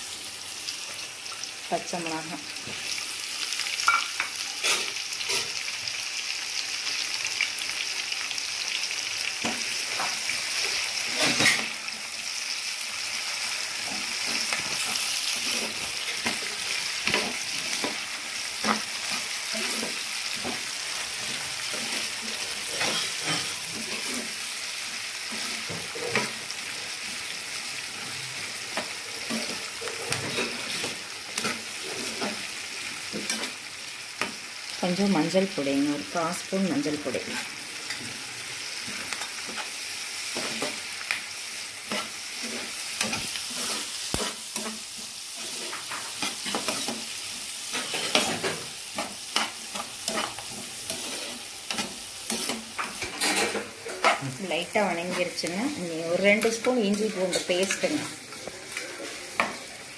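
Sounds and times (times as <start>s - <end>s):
onions sizzling in hot oil: 0.0s - 59.9s.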